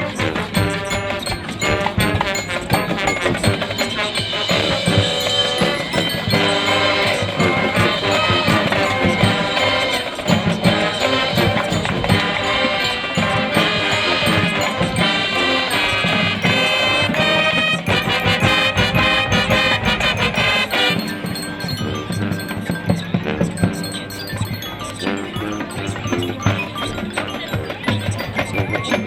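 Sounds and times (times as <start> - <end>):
drum and percussion hits: 0.0 - 29.0
marching band wind instruments: 0.0 - 29.0.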